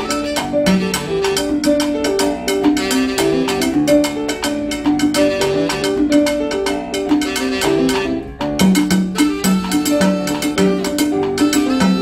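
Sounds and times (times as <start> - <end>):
hand percussion beat: 0.0 - 12.0
piano notes: 0.0 - 12.0.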